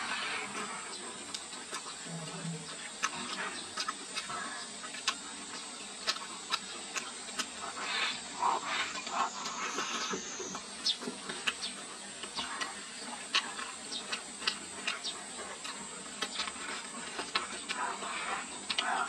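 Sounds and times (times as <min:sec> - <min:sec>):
sharp crunches of chewing: 0:00.0 - 0:19.0
soft wet mouth noises: 0:00.4 - 0:19.0.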